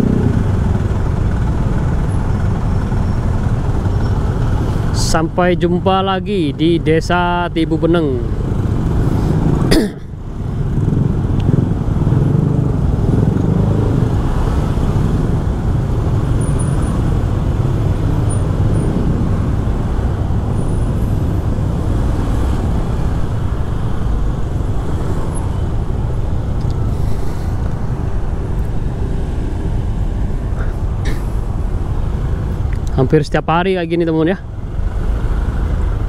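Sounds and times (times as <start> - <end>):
slow traffic of scooters and cars: 0.0 - 36.0.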